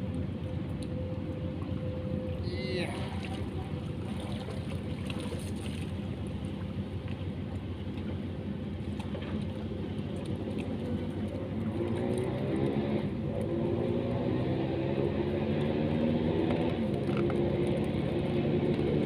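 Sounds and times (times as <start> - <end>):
distant motor engine drone: 0.0 - 19.0.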